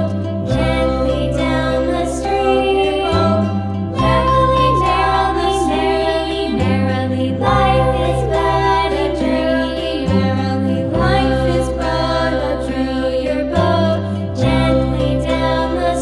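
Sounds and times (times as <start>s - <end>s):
person singing: 0.0s - 16.0s
sustained bass notes: 0.0s - 16.0s.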